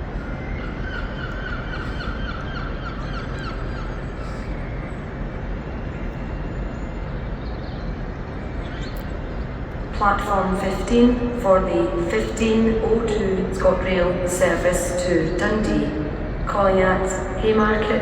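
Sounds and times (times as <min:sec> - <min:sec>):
train rumbling into platform: 0:00.0 - 0:18.0.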